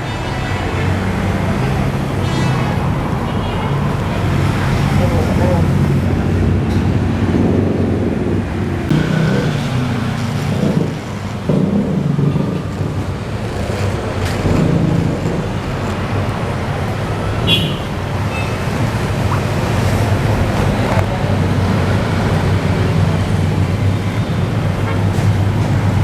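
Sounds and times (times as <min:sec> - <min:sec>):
vehicles passing close by: 0:00.0 - 0:26.0.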